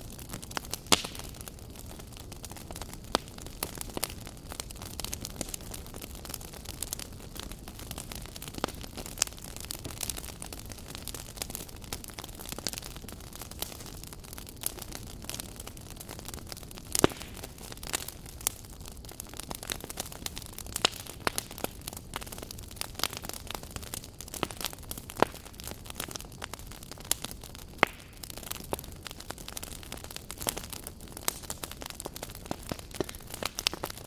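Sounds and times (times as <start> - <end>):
fire crackling and popping: 0.0 - 34.0
wood fire burning: 0.0 - 34.0.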